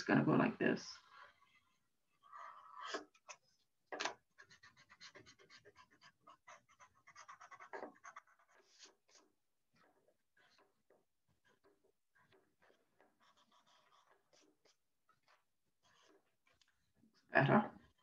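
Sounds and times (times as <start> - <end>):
pencil scratching on paper: 1.0 - 3.4, 4.1 - 16.6.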